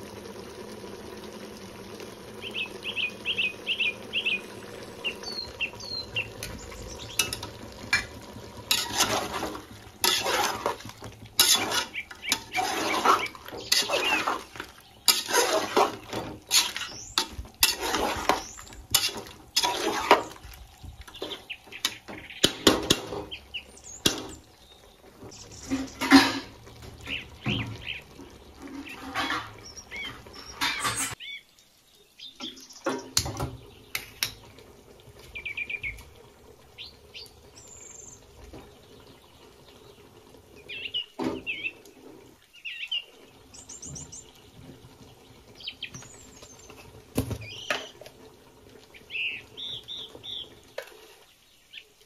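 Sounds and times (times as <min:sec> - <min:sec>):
birds chirping: 0:02.2 - 0:52.0.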